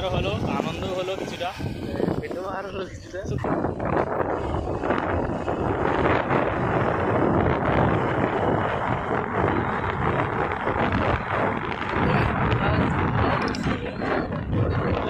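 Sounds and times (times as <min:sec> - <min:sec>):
vehicle noise: 0:00.0 - 0:15.0
wind buffeting microphone: 0:00.0 - 0:15.0.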